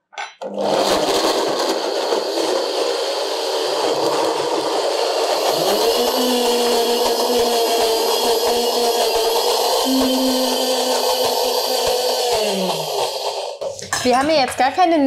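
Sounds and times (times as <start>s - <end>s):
blender running: 0.4s - 14.3s.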